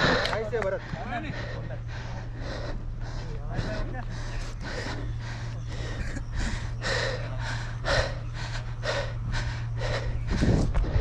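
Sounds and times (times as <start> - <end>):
heavy rhythmic panting: 0.0 - 11.0.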